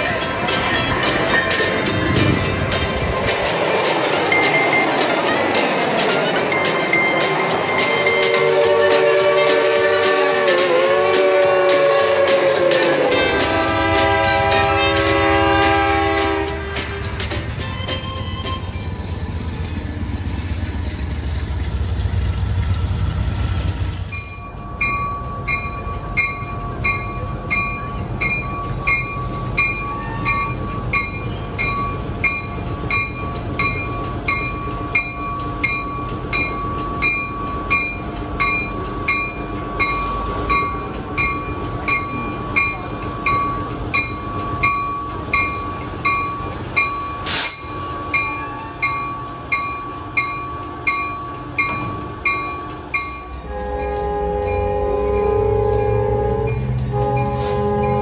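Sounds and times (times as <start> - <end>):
railway bell ringing: 0.0 - 21.0, 24.0 - 58.0
train rumbling: 0.0 - 58.0.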